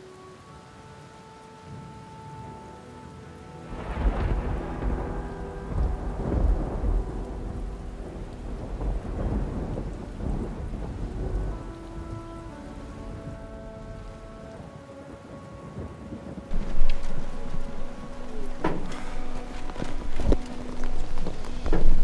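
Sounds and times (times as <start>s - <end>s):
soft held music notes: 0.0s - 22.0s
steady rain: 0.0s - 22.0s
thunder rolling: 3.6s - 22.0s.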